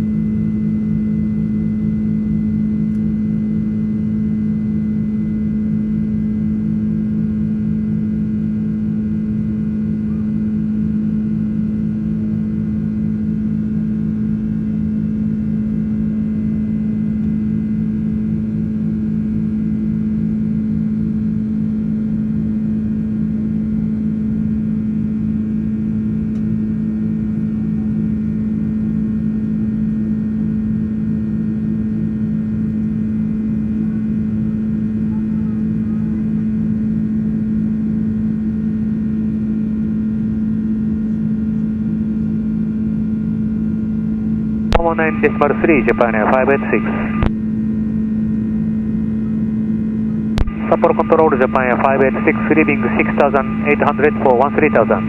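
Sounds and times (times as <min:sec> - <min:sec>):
jet engine drone in cabin: 0:00.0 - 0:55.0.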